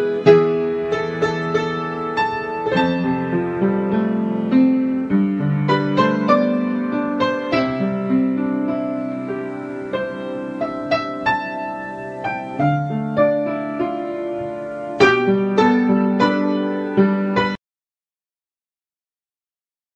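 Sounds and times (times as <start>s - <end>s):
soft piano music: 0.0s - 17.6s.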